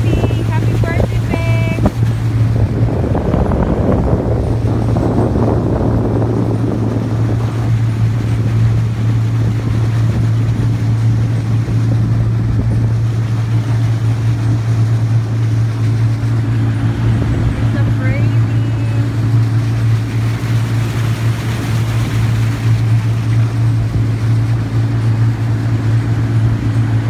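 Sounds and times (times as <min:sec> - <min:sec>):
motorboat engine humming: 0:00.0 - 0:27.0
rush of wind and water: 0:00.0 - 0:27.0.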